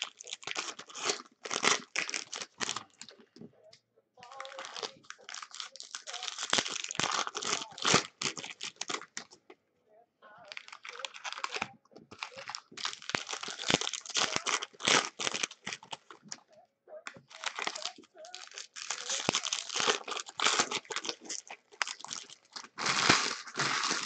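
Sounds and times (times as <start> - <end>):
foil wrapper tearing and crinkling: 0.0 - 3.2, 4.2 - 9.4, 10.5 - 16.4, 17.1 - 24.0.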